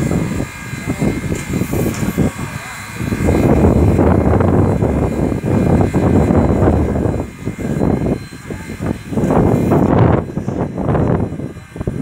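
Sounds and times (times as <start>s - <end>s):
steam locomotive low rumble: 0.0s - 12.0s.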